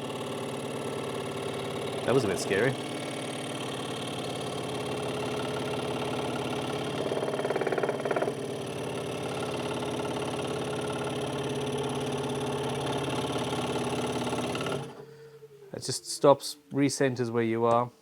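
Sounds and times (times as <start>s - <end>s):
scroll saw running: 0.0s - 15.1s.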